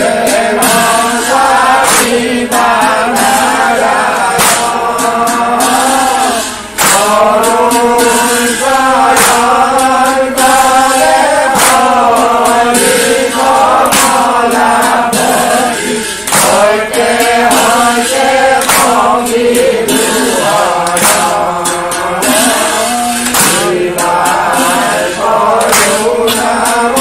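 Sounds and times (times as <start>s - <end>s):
men chanting together: 0.0s - 27.0s
sharp percussive strikes: 0.0s - 27.0s.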